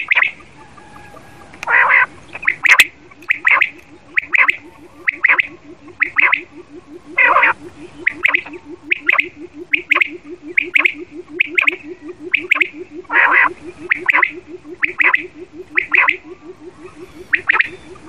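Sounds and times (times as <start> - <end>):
low pulsing: 0.0 - 18.0
quail chirping: 0.0 - 18.0.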